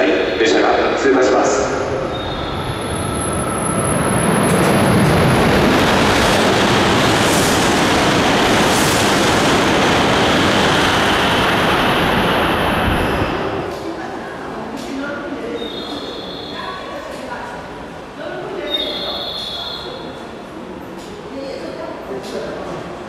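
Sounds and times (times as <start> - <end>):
high-speed train passing: 0.0 - 23.0.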